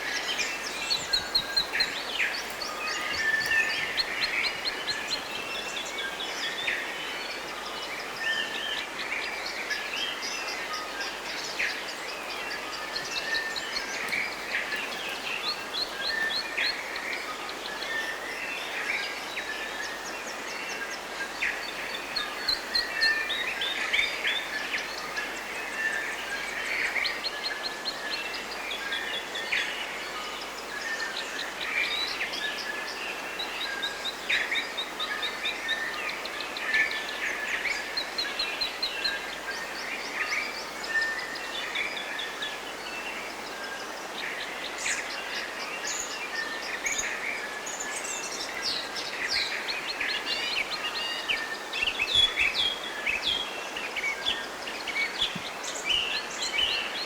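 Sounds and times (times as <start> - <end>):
background hiss: 0.0 - 57.0
songbirds chirping: 0.0 - 57.0.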